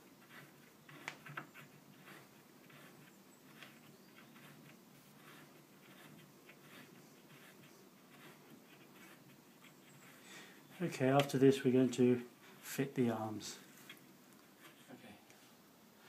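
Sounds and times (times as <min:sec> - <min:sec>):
light scrapes and ticks on wood: 0:00.0 - 0:11.7, 0:13.5 - 0:15.4.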